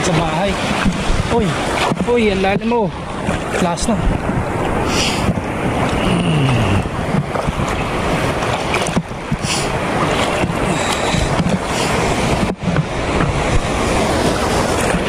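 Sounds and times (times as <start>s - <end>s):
sea water splashing: 0.0s - 15.0s
wind buffeting microphone: 0.0s - 15.0s.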